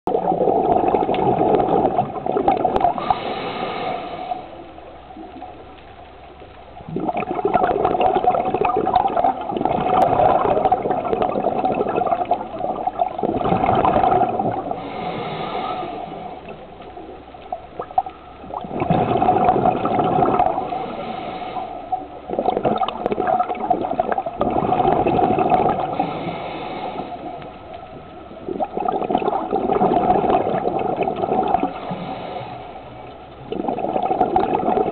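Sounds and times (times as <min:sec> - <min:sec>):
underwater bubbling and gurgling: 0:00.1 - 0:34.9.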